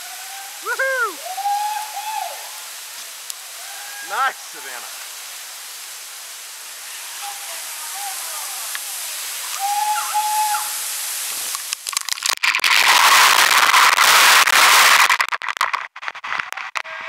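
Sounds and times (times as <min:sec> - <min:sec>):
water crackling on microphone: 0:00.0 - 0:01.7, 0:02.5 - 0:17.0
waterfall rushing: 0:00.0 - 0:15.2.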